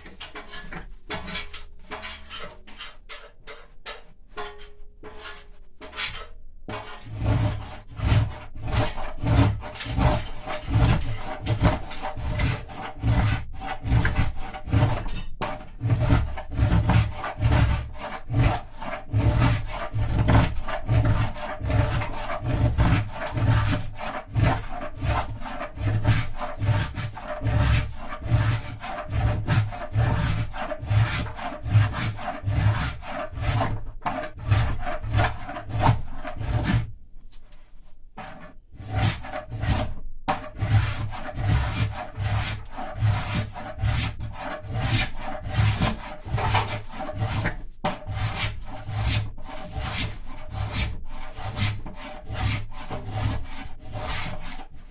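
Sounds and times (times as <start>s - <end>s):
hand tool rasping wood: 0.0s - 36.9s, 38.2s - 54.8s.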